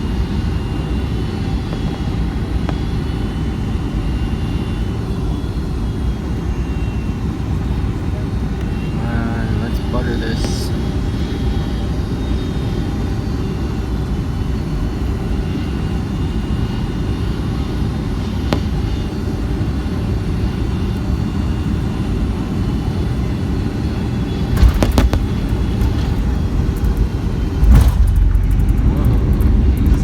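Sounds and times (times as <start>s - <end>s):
airliner cabin engine rumble: 0.0s - 30.0s.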